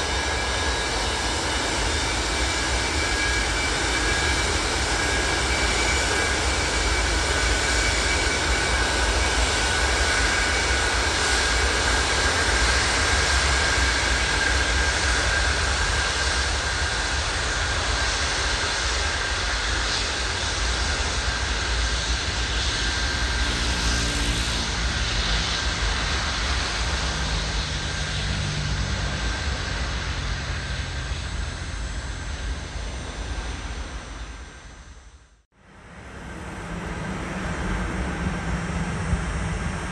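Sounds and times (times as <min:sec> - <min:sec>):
jet engines at taxi power: 0:00.0 - 0:39.9.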